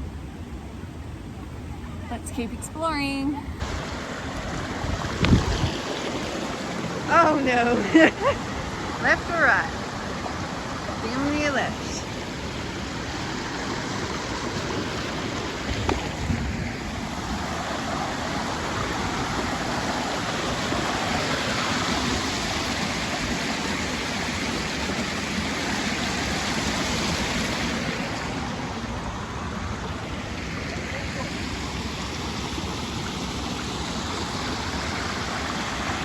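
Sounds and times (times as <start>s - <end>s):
waterfall and creek rushing: 3.6s - 36.0s.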